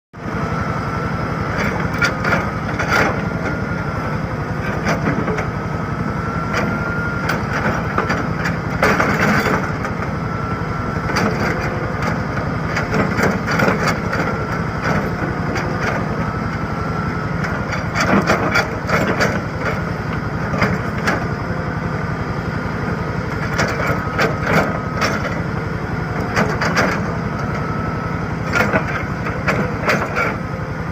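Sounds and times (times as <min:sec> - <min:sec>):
excavator engine running: 0:00.2 - 0:30.9.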